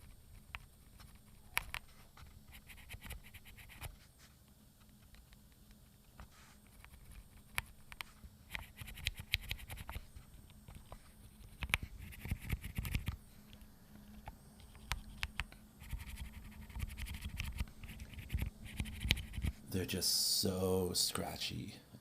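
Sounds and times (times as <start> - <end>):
scratchy rubbing of keys: 0.0 - 19.6.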